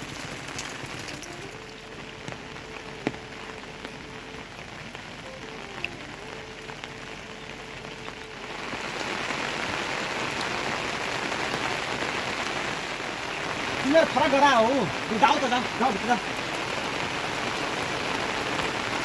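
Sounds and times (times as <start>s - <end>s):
rain falling on surfaces: 0.0s - 19.0s.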